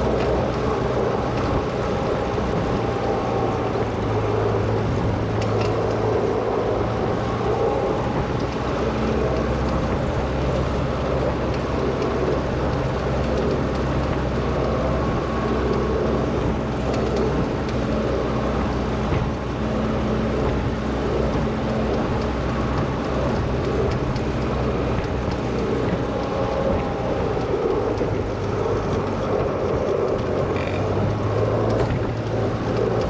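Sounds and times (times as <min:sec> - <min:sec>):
loader engine running: 0:00.0 - 0:33.0.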